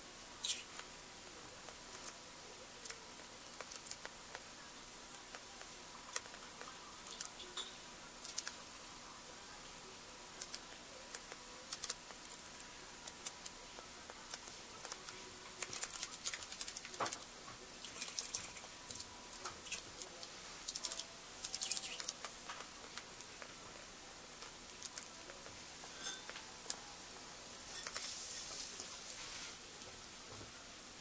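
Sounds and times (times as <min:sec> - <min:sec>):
parakeet pecking and stepping: 0:00.4 - 0:30.5.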